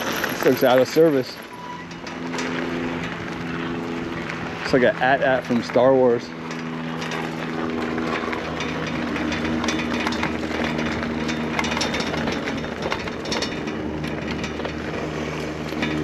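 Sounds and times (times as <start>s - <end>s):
bike rattling: 0.0s - 16.0s
low electric hum: 0.0s - 16.0s
tyres crackling on gravel: 0.0s - 16.0s.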